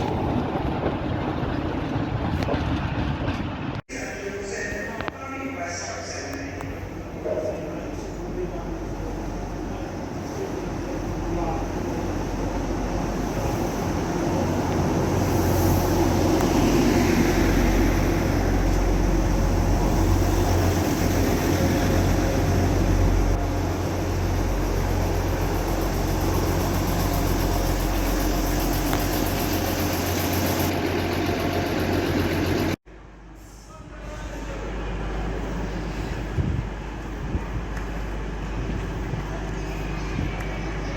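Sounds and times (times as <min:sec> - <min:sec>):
train rumbling on tracks: 0:00.0 - 0:40.9.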